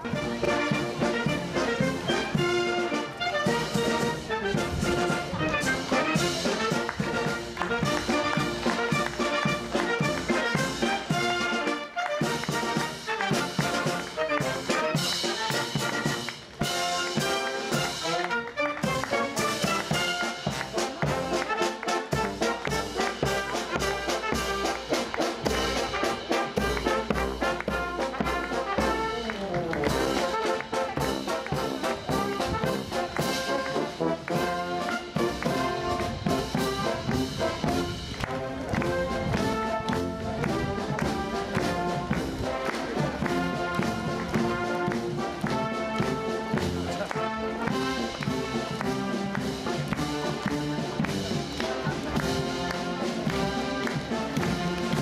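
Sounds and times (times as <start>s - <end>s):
brass band playing a march: 0.0s - 55.0s
steady drum beat: 0.0s - 55.0s.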